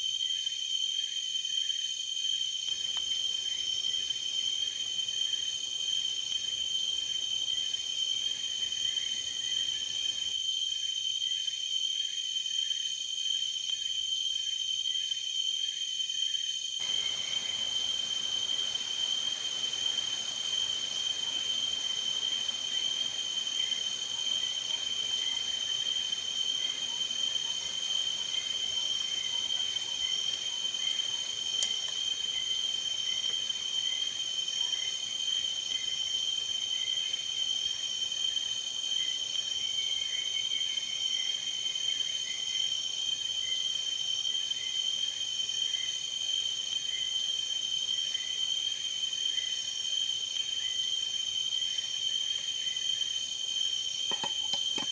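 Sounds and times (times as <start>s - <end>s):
high-pitched insect trilling: 0.0s - 54.9s.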